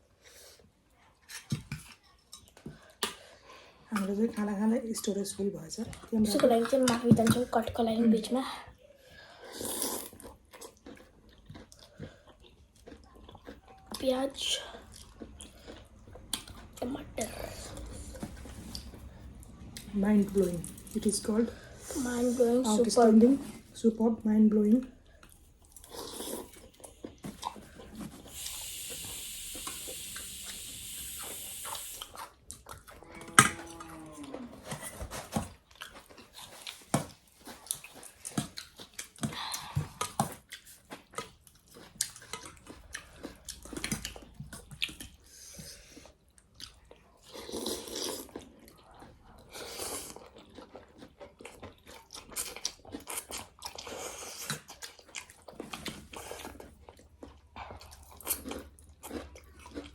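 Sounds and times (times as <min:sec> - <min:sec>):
chewing and mouth sounds: 0:00.2 - 0:59.9.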